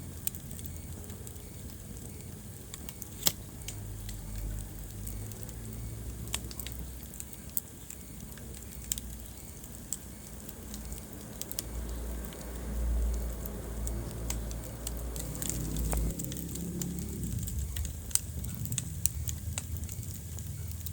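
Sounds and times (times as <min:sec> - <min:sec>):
rumble of flames: 0:00.0 - 0:20.9
wood fire crackling: 0:00.0 - 0:20.9.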